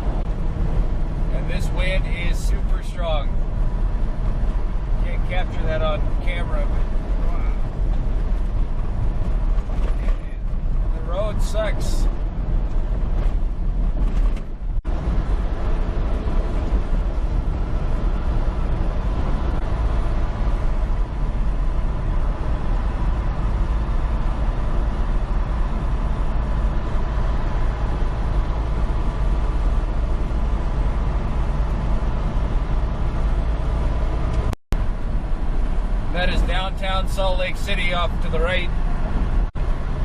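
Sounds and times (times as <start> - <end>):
truck engine and road rumble: 0.0 - 40.0.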